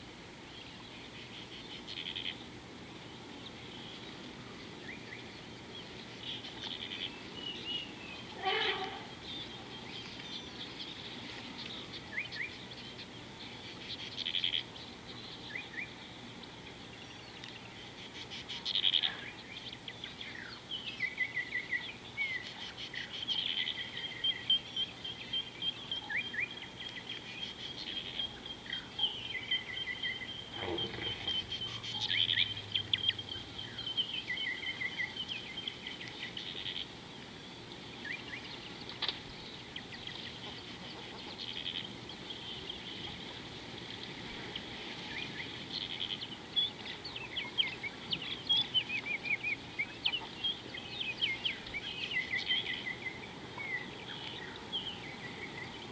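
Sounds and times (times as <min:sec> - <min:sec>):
birds chirping and trilling: 0:00.5 - 0:55.9.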